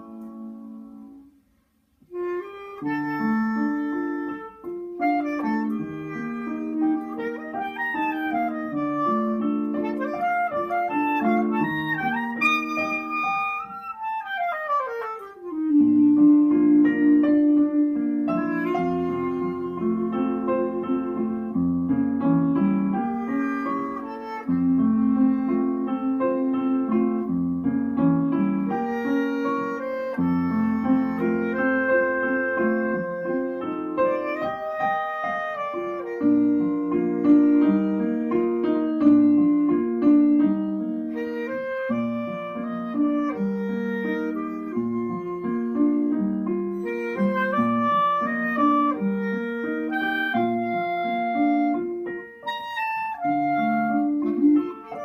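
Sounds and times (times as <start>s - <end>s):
clarinet melody: 0.0s - 55.0s
piano accompaniment: 0.0s - 55.0s.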